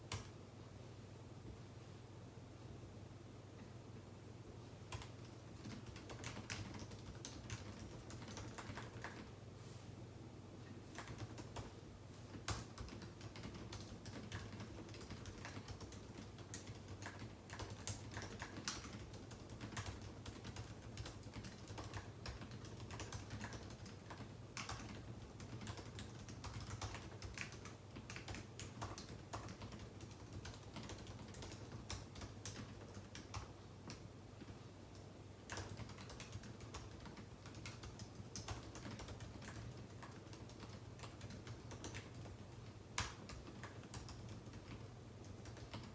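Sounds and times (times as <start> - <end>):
typing on keyboard: 0.0 - 0.3, 4.9 - 9.3, 10.9 - 45.9.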